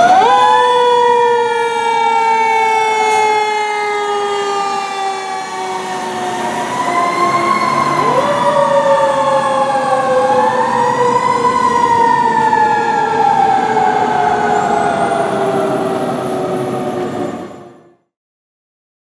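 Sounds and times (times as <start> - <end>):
fire truck sirens wailing: 0.0 - 18.1.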